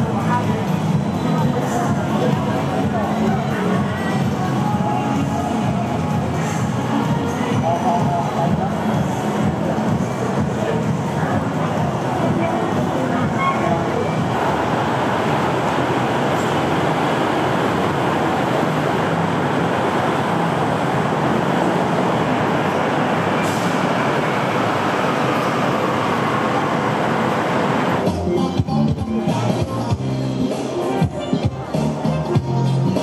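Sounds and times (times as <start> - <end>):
vehicle in motion: 0.0 - 30.4.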